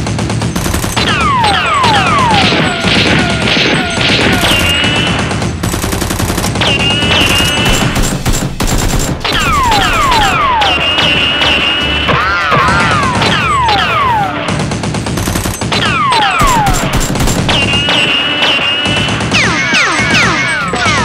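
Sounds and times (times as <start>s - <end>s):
gunfire-like bangs: 0.0s - 21.0s.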